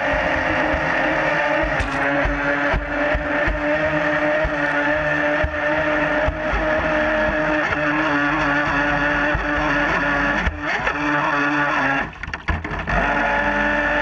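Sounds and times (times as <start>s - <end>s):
model boat motor whining: 0.0s - 14.0s.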